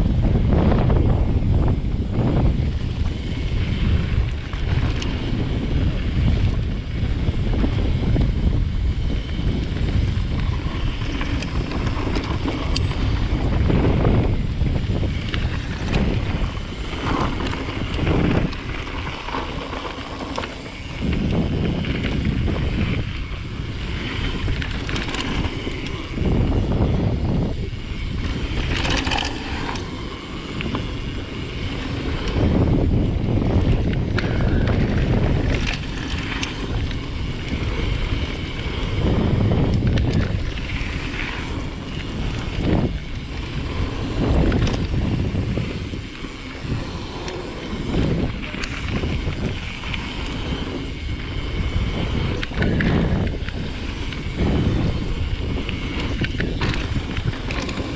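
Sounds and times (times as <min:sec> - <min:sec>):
wind buffeting microphone: 0:00.0 - 0:57.9
bike clattering over bumps: 0:02.2 - 0:57.9.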